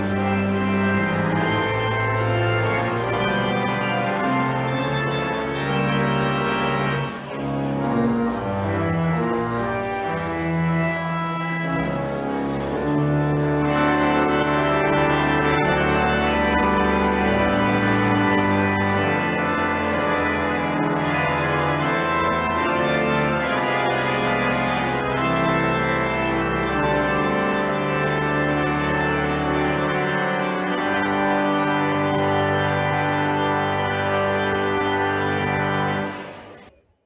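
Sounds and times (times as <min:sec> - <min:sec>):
organ chords: 0:00.0 - 0:36.8.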